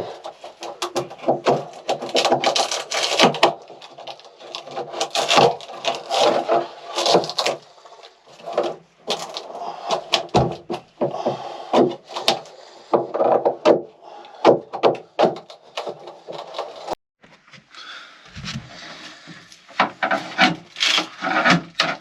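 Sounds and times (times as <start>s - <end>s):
wood knocking and clattering: 0.0s - 7.6s, 8.4s - 17.7s, 18.3s - 22.0s.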